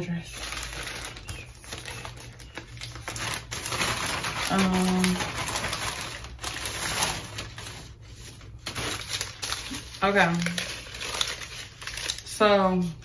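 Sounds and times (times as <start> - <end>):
plastic mailer bag crinkling: 0.0 - 13.0.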